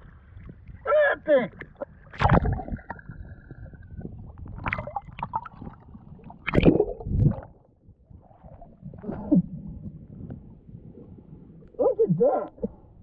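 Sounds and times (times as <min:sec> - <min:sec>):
water splashing and gurgling: 0:00.0 - 0:13.0.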